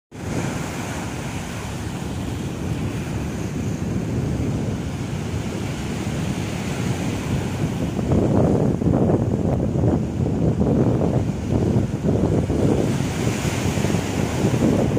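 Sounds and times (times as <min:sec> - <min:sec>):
wind buffeting microphone: 0:00.1 - 0:14.9
waves washing onto rocky shore: 0:00.2 - 0:14.9.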